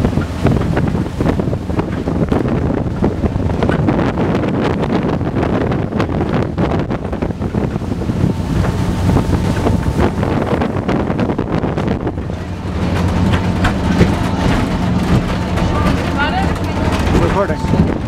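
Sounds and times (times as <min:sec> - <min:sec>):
speedboat engine running: 0:00.0 - 0:18.0
wind buffeting microphone: 0:00.0 - 0:18.0.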